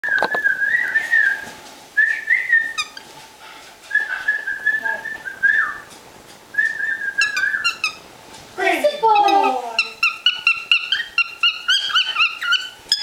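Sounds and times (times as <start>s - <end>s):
cockatiel whistling: 0.0s - 3.0s, 3.9s - 5.9s, 6.5s - 8.0s, 8.9s - 13.0s.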